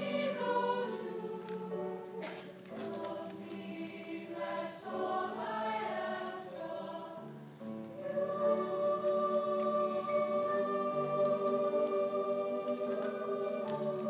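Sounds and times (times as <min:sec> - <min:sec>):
choir singing held chords: 0:00.0 - 0:14.0.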